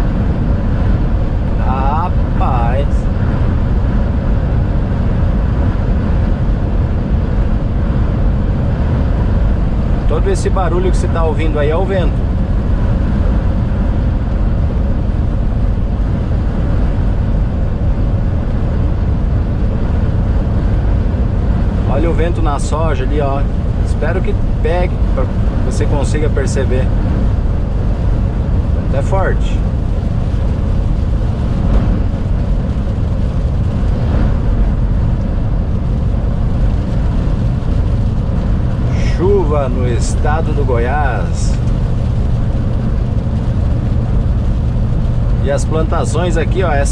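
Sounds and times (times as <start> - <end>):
wind rumbling against truck cab: 0.0 - 46.9.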